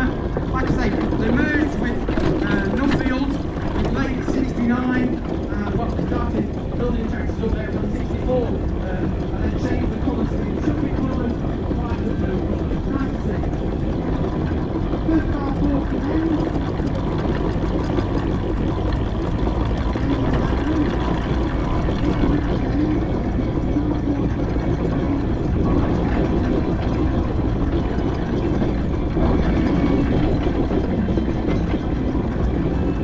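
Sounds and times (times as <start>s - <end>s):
low rumble of running vehicle: 0.0s - 33.0s.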